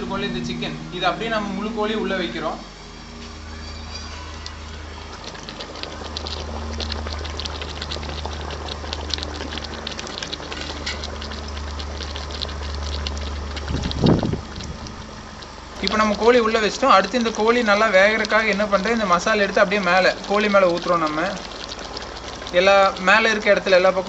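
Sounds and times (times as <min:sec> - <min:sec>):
steady low hum: 0:00.0 - 0:24.0
gravy bubbling and crackling: 0:03.2 - 0:24.0.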